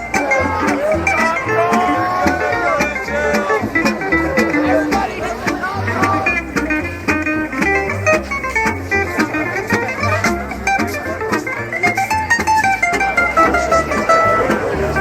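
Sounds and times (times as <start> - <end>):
plucked guitar: 0.0 - 15.0
steady bass line: 0.0 - 15.0.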